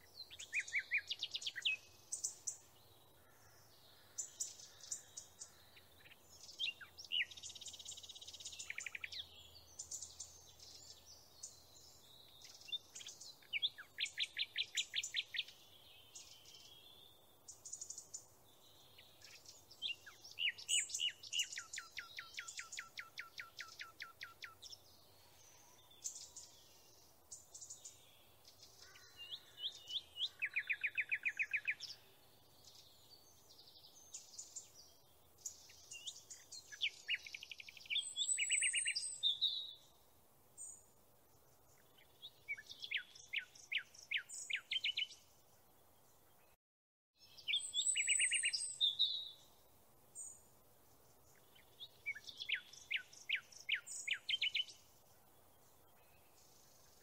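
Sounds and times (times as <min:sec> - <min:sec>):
songbirds chirping: 0:00.0 - 0:46.6, 0:47.2 - 0:57.0.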